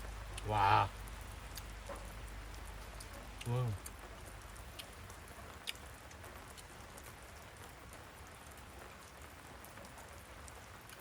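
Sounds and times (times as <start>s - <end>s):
drops ticking: 0.0s - 11.0s
rain falling: 0.0s - 11.0s.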